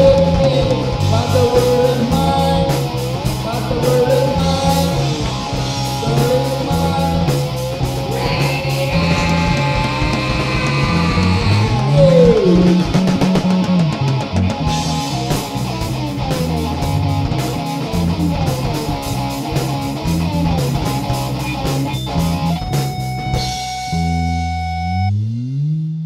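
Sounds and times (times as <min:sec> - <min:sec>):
guitar note sliding down: 0:00.0 - 0:18.6, 0:19.9 - 0:26.0
drums: 0:00.0 - 0:25.1
heavy rock guitar riff: 0:00.0 - 0:25.1
bass guitar: 0:00.0 - 0:26.0.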